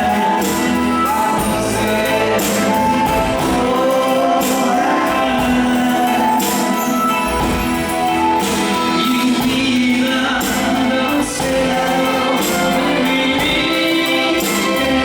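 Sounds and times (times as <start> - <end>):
live band playing: 0.0 - 15.0
person singing: 0.0 - 15.0.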